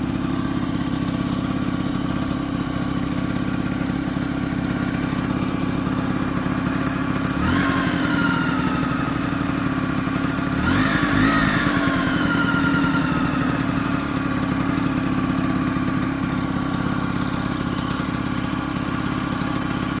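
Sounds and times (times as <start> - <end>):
scooter engine idling and revving: 0.0 - 20.0.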